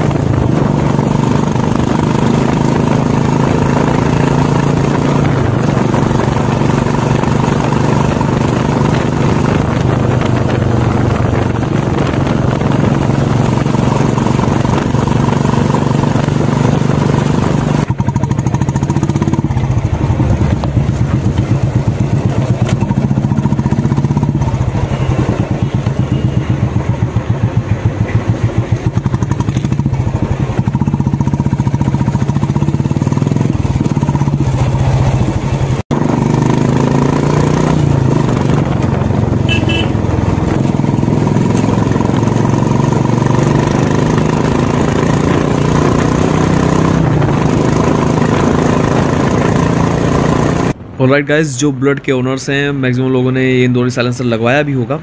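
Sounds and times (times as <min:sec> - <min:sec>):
motorcycle exhaust thumping: 0:00.0 - 0:50.8.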